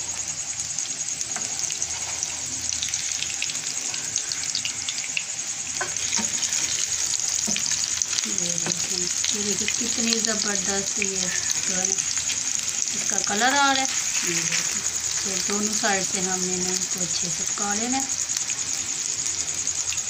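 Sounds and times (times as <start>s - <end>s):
patties sizzling in hot oil: 0.0s - 20.0s.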